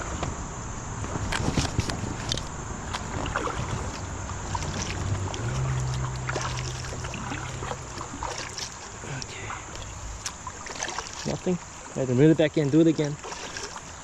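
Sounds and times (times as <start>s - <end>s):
low steady hum: 0.0s - 14.0s
water lapping around a kayak: 1.0s - 14.0s
small clicks and splashes: 1.2s - 12.0s, 12.9s - 14.0s.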